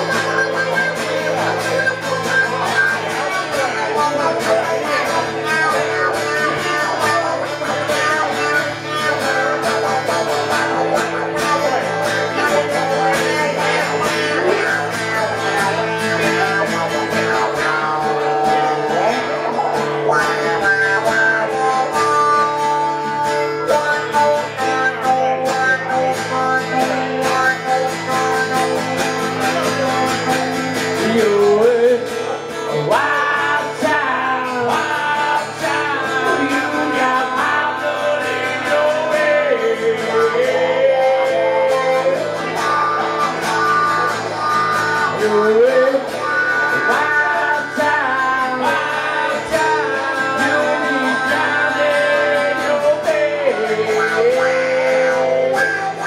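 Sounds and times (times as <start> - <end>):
sliding guitar lead melody: 0.0 - 56.0
strummed guitar chords: 0.0 - 56.0.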